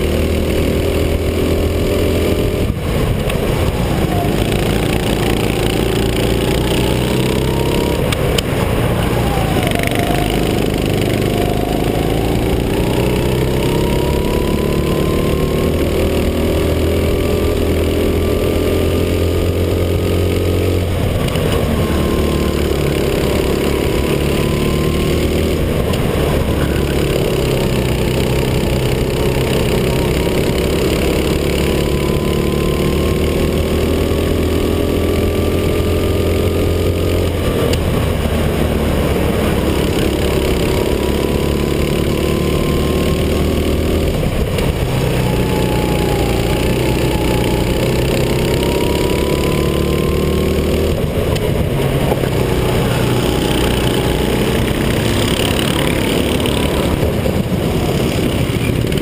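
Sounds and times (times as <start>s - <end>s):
racing kart engine under throttle: 0.0s - 59.0s.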